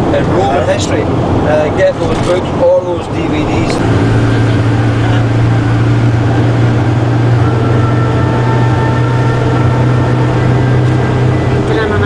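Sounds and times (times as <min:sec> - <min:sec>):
coach engine drone: 0:00.0 - 0:12.0
road noise: 0:00.0 - 0:12.0.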